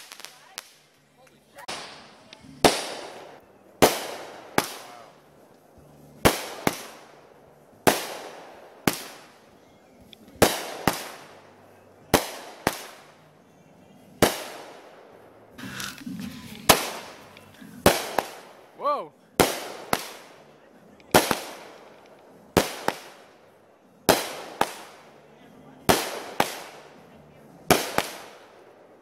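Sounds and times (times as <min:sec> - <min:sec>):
fireworks bangs echoing: 0:00.0 - 0:29.0.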